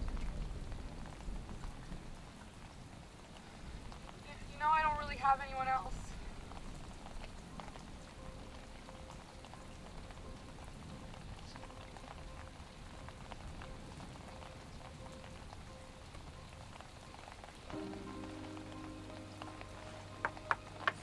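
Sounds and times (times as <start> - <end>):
rain on hard surfaces: 0.0 - 21.0.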